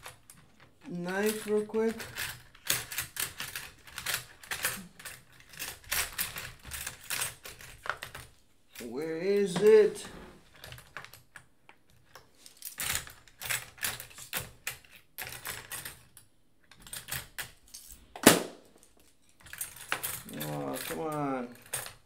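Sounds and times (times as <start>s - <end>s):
small tools clicking and clattering: 0.0s - 9.8s, 10.4s - 22.0s.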